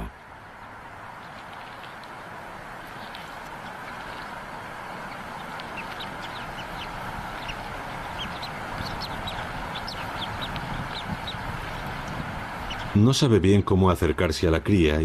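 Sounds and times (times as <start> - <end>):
eagle chick peeping: 1.0 - 13.8.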